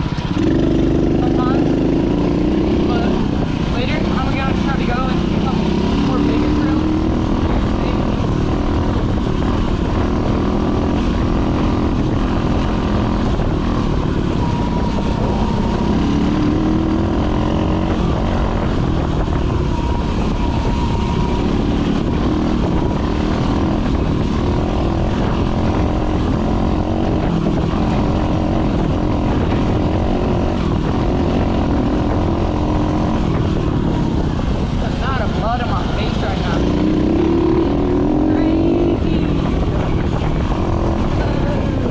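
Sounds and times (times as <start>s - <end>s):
dirt bike engine running hard: 0.0s - 41.9s.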